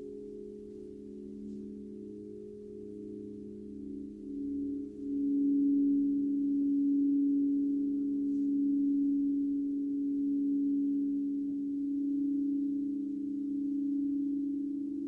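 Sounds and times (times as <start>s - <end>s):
crystal singing bowls: 0.0s - 15.0s.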